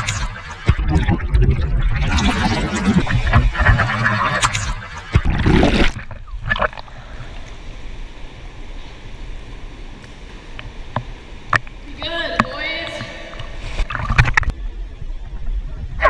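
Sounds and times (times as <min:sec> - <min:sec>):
water churning underwater: 0:00.0 - 0:08.6, 0:10.6 - 0:16.0
pool room hum: 0:00.0 - 0:16.0.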